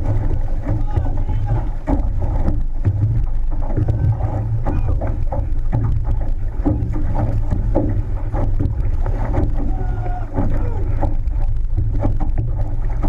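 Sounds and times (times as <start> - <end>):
paddle splashes: 0.0 - 13.0
water rushing along hull: 0.0 - 13.0
wind rumbling on microphone: 0.0 - 13.0.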